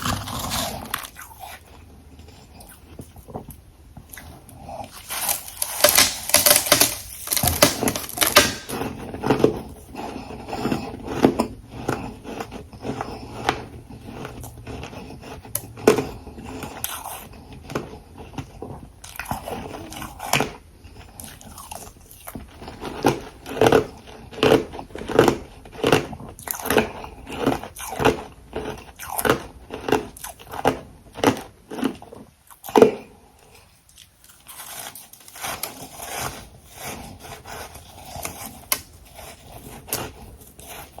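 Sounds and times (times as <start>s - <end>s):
chewing ice crunches: 0.0s - 3.3s, 4.0s - 41.0s.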